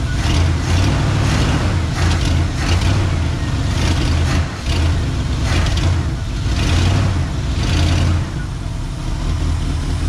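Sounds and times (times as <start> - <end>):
truck engine running unevenly: 0.0 - 10.0.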